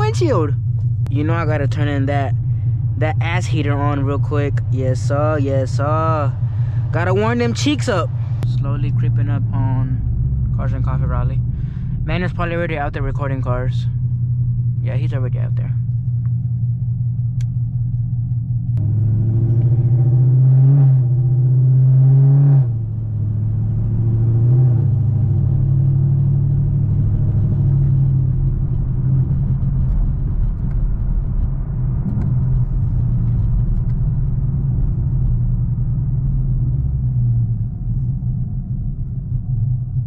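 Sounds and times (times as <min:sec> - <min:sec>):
car exhaust rumble: 0:00.0 - 0:40.0.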